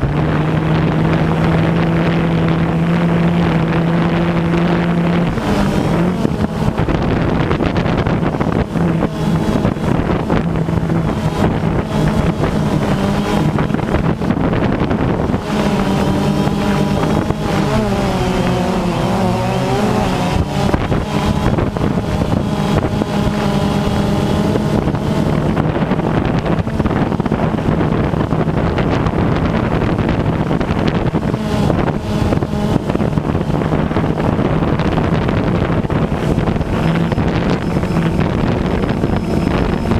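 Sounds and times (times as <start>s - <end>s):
drone motors humming: 0.0s - 39.9s
wind noise on microphone: 0.0s - 39.9s.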